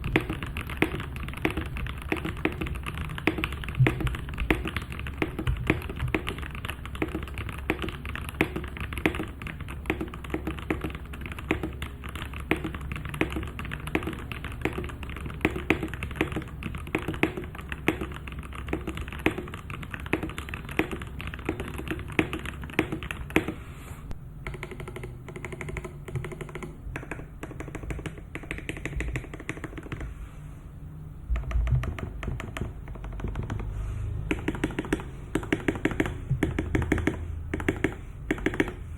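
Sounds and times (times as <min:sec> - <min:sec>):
fast mechanical keyboard typing: 0:00.0 - 0:23.6, 0:24.4 - 0:30.1, 0:31.3 - 0:38.8.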